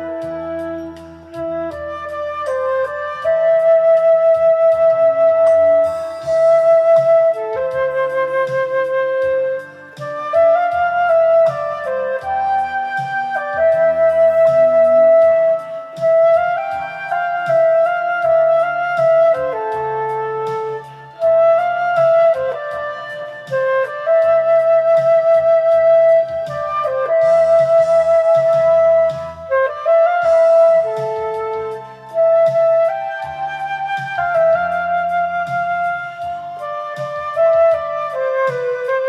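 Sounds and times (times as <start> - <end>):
flute melody: 0.0 - 39.0
karaoke backing track: 0.0 - 39.0.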